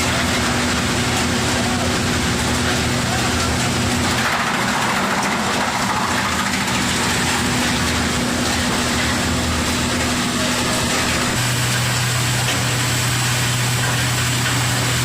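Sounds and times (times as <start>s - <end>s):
wood crusher running: 0.0s - 15.0s.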